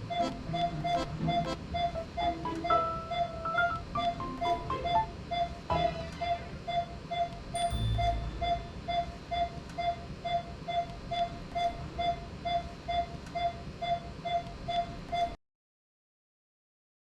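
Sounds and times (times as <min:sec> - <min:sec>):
patient monitor beeping: 0:00.0 - 0:15.4.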